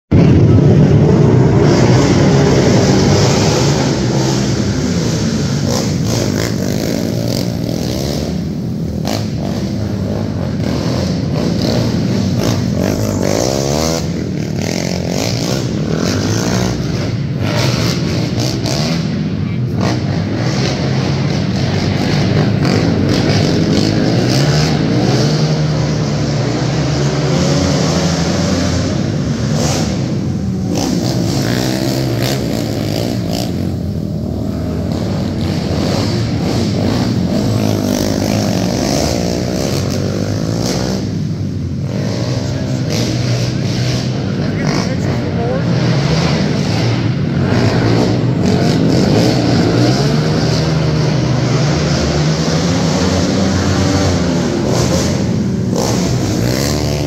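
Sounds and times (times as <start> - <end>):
quad engines revving: 0.1 - 57.0.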